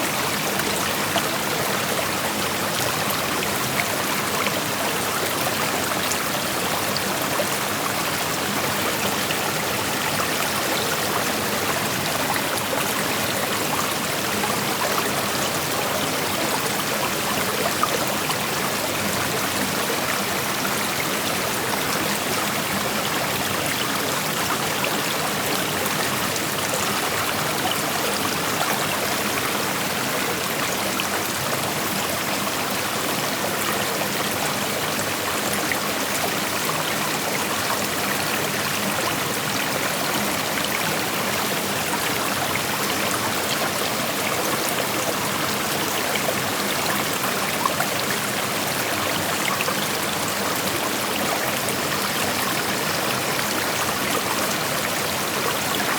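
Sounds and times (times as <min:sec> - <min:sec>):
creek flowing over rocks: 0:00.0 - 0:55.9.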